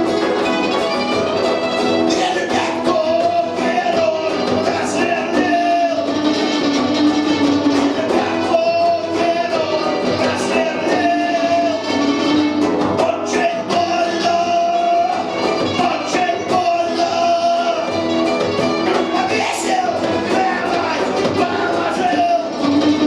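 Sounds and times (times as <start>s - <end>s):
punk rock band playing live: 0.0s - 23.0s.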